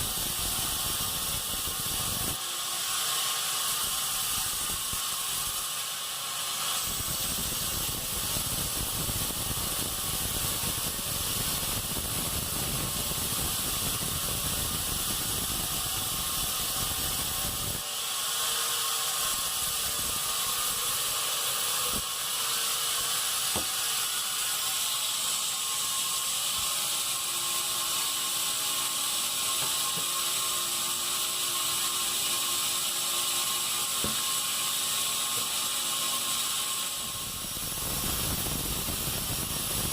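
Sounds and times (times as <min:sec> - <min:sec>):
band saw blade whine: 0:00.0 - 0:39.9.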